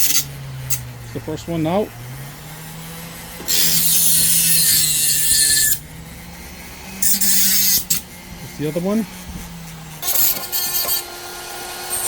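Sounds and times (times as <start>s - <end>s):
rotary grinder grinding metal: 0.0s - 12.0s.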